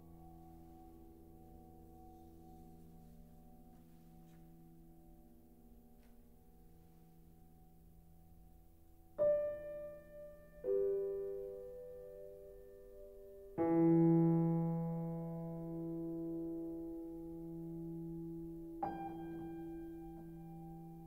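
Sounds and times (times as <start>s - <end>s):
piano chords ringing: 0.0s - 21.0s.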